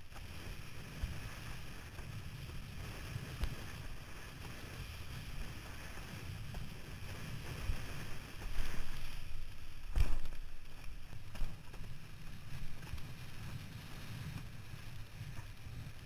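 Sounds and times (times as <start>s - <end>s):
board slapping water: 0.0s - 16.0s.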